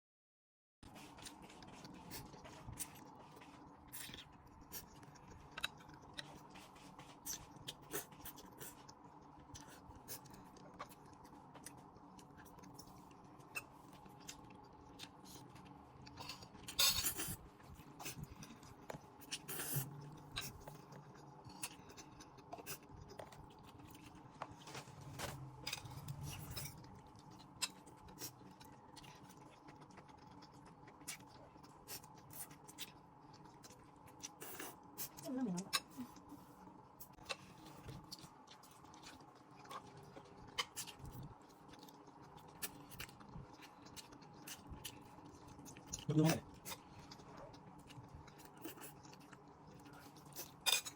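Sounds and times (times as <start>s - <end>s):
faint steady hum: 0.8s - 50.9s.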